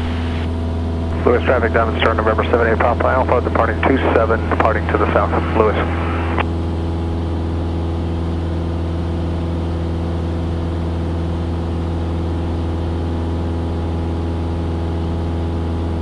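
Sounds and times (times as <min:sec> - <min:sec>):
airplane engine droning in cabin: 0:00.0 - 0:16.0.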